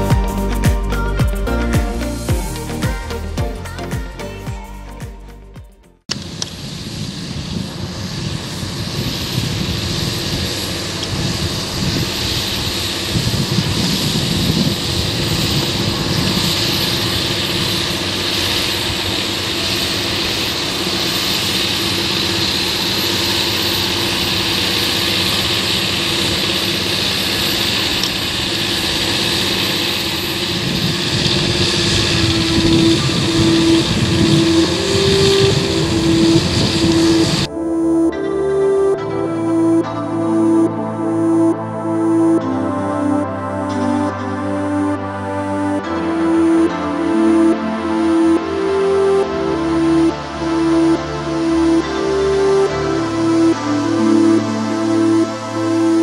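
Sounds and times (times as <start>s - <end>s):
tractor diesel engine under load: 6.1s - 56.0s.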